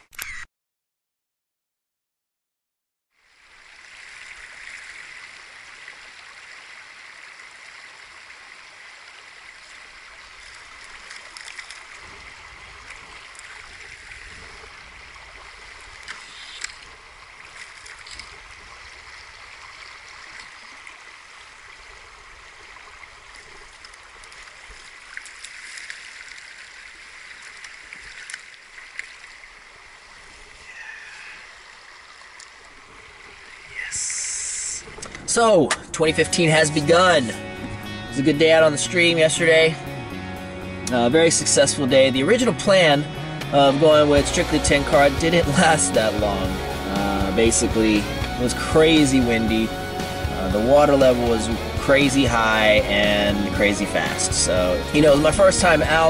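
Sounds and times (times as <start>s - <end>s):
fast-running river: 3.2s - 40.2s, 40.8s - 56.0s.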